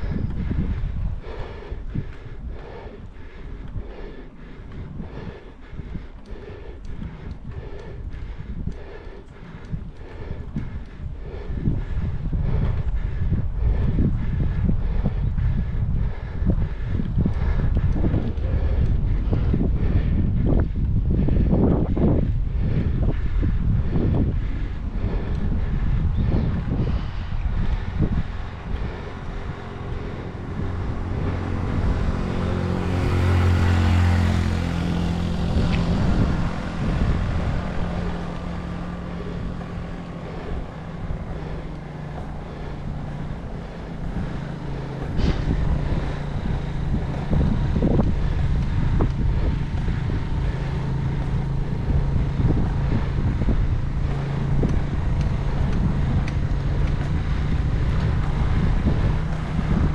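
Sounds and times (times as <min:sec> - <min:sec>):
motor vehicle engine droning: 0:00.0 - 0:59.9
wind rumbling on microphone: 0:00.0 - 0:59.9.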